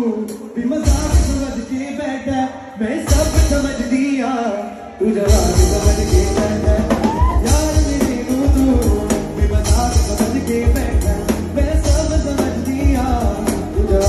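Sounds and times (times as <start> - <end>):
man singing: 0.0 - 14.0
drum kit beat: 0.2 - 1.8, 3.0 - 4.2, 5.2 - 14.0.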